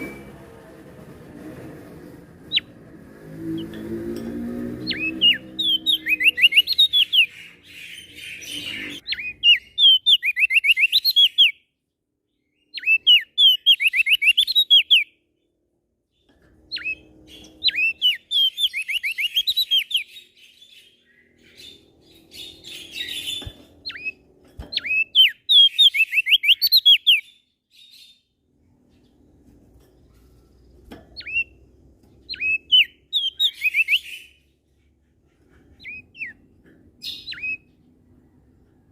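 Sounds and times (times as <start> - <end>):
songbird chirping: 2.4 - 38.9.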